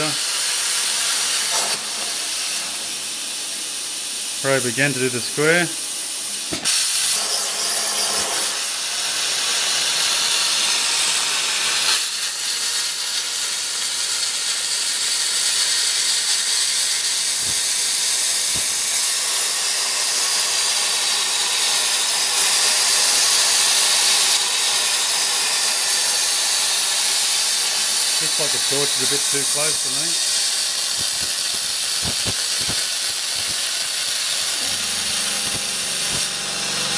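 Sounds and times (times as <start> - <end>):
plasma cutter hissing: 0.0 - 36.9.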